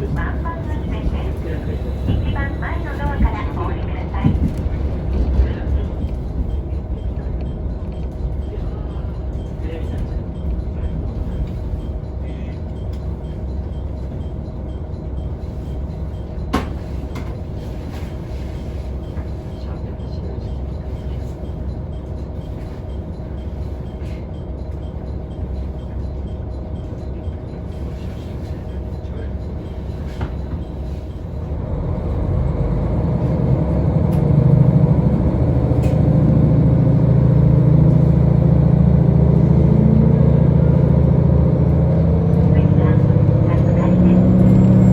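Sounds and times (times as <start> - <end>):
diesel railcar engine rumble: 0.0 - 44.9.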